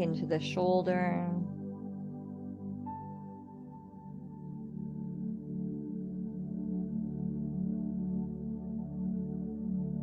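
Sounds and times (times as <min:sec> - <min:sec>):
ambient new-age music: 0:00.0 - 0:10.0.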